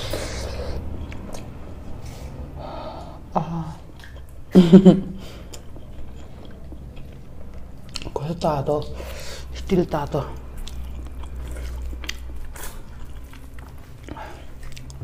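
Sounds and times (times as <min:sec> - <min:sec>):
chewing and mouth noises: 0:00.0 - 0:02.4, 0:03.9 - 0:04.4, 0:05.4 - 0:15.0
low steady hum: 0:00.0 - 0:15.0.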